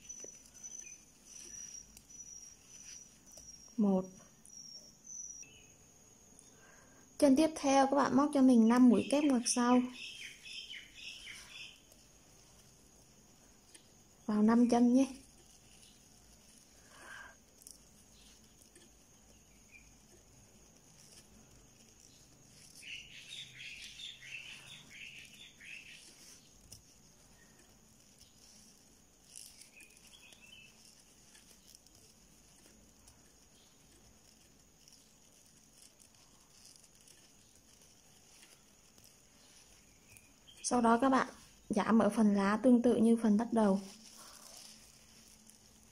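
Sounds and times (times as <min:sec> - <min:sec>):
faint high-pitched chirping: 0:00.0 - 0:45.9.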